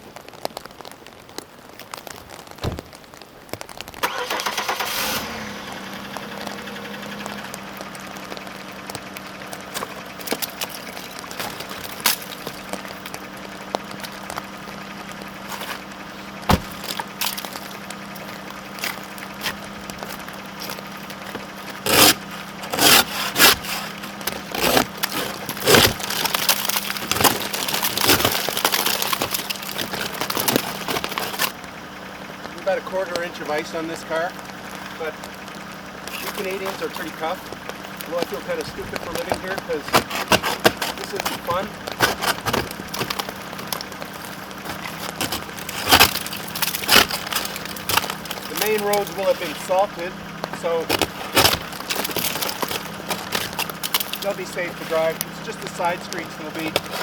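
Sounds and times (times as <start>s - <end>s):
car engine starting and idling: 2.4s - 57.0s
ice being chipped off car: 4.0s - 31.6s, 32.4s - 57.0s.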